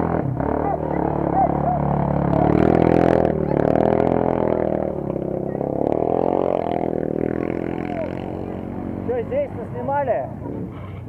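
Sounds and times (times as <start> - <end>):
quad bike engines revving: 0.0 - 11.0.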